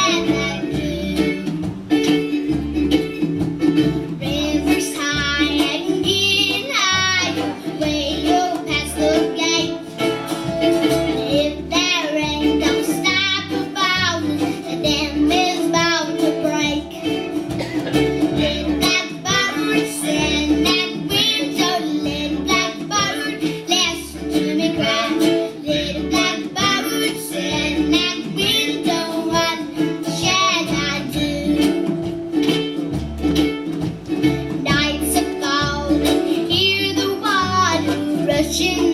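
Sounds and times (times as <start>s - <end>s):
girl singing: 0.0s - 2.5s, 3.9s - 10.1s, 11.0s - 32.0s, 34.5s - 38.9s
plucked acoustic strings: 0.0s - 38.9s.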